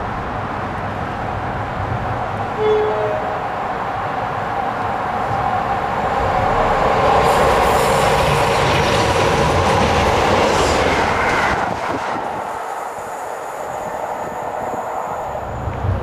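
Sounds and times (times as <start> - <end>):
freight train passing: 0.0 - 16.0
train wheels on rails: 0.6 - 16.0.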